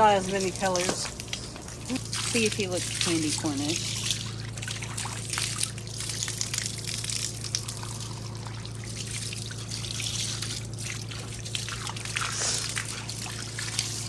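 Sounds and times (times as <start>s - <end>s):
steady low hum: 0.0s - 14.0s
water trickling and splashing: 0.0s - 14.0s.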